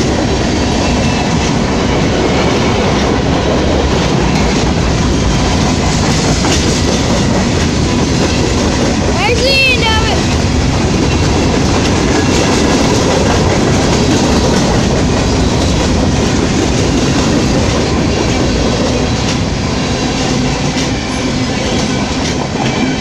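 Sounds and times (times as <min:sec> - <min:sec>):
clickety-clack over rail joints: 0:00.0 - 0:09.2, 0:10.2 - 0:23.0
train wheels rumbling on rails: 0:00.0 - 0:23.0.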